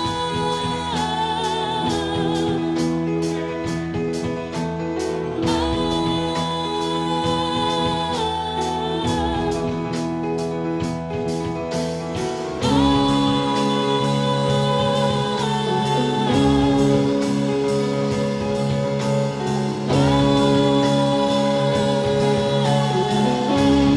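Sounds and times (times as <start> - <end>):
band playing instrumental: 0.0 - 23.9.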